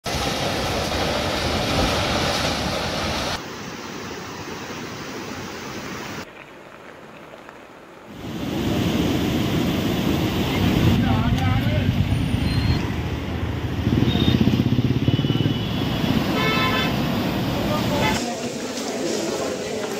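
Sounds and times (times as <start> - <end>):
floodwater rushing: 0.0 - 14.5, 15.3 - 19.9.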